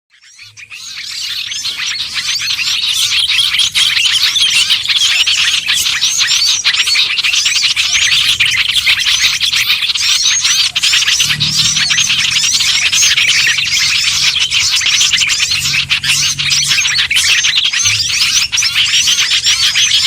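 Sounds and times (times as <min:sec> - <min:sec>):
small songbirds chirping: 0:00.1 - 0:20.0.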